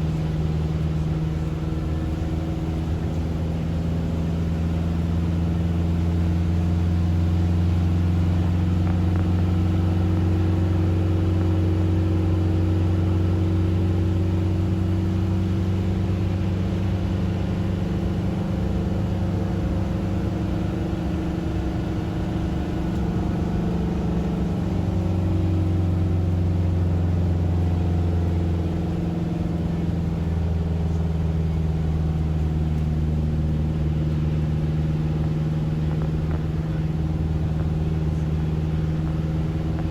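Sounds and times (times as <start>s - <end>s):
vehicle engine and road drone: 0.0s - 39.9s.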